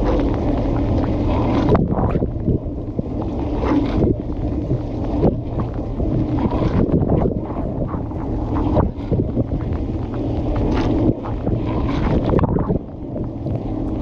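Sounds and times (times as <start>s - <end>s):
dishwasher low hum: 0.0s - 14.0s
water splashing from spray arms: 0.0s - 14.0s.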